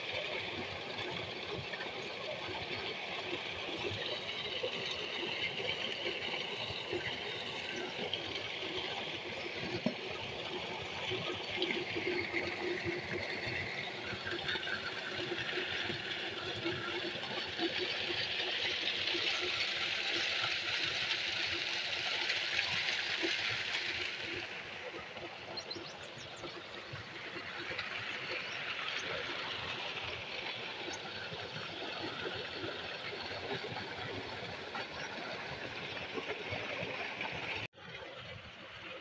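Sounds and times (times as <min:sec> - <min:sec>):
water gushing into a tank: 0:00.0 - 0:39.0
pump engine running: 0:00.2 - 0:37.7.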